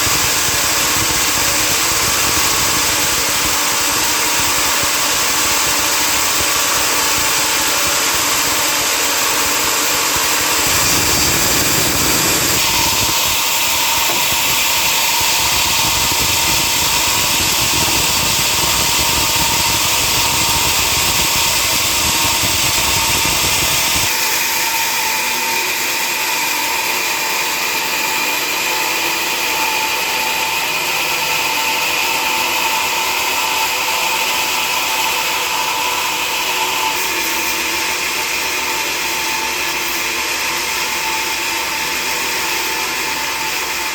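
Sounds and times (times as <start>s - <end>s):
sawmill machinery whining: 0.0s - 43.9s.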